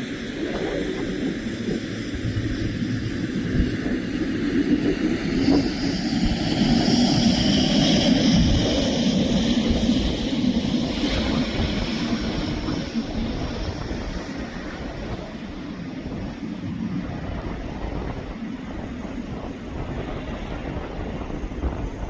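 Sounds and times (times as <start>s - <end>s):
aircraft passing: 0.0s - 22.0s
wind buffeting microphone: 0.0s - 22.0s.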